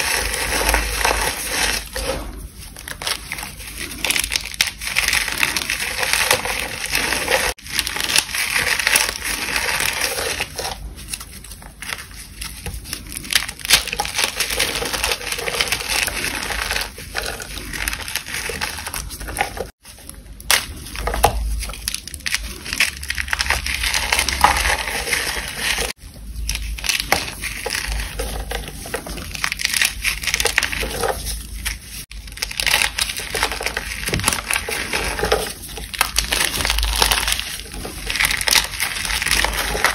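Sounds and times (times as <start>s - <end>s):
wet chalk crunching by hand: 0.0s - 39.9s.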